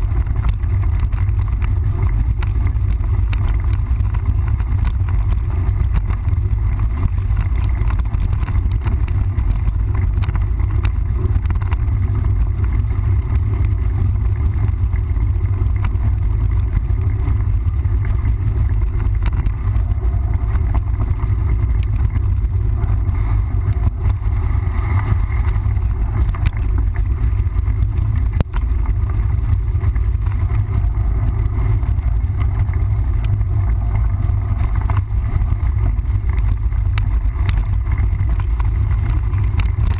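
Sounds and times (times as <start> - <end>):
bike tyres rolling on trail: 0.0 - 39.9
faint clicks and knocks: 0.0 - 39.9
wind buffeting microphone: 0.0 - 39.9.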